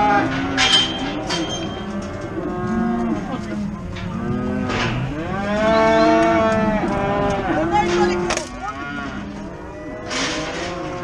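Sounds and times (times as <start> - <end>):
cattle mooing: 0.0 - 11.0.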